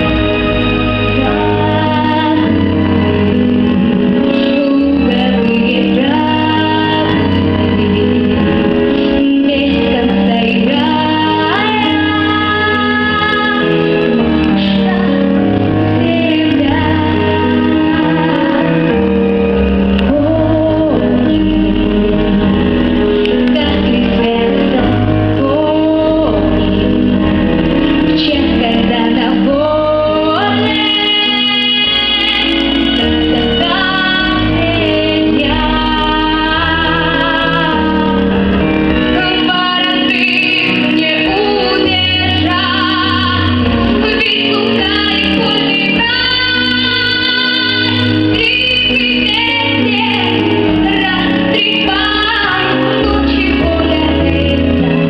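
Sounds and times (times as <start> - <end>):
instrumental backing track: 0.0 - 55.0
woman singing with vibrato: 0.0 - 55.0.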